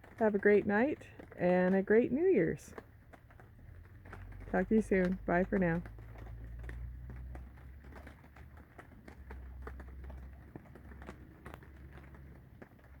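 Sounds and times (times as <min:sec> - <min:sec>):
raindrops tapping close: 0:00.0 - 0:13.0.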